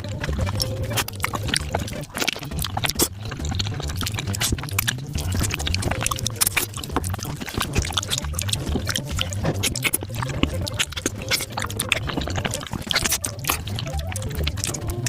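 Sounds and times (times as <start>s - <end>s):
sped-up wet chewing and slurping: 0.0s - 15.0s.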